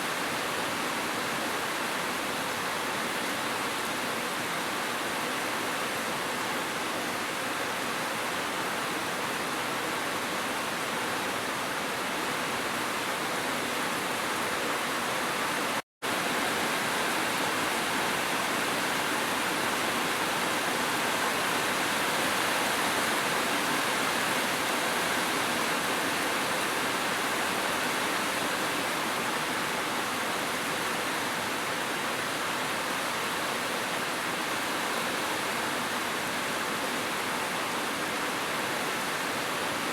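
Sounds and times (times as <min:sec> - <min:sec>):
gentle rain: 0:00.0 - 0:39.9.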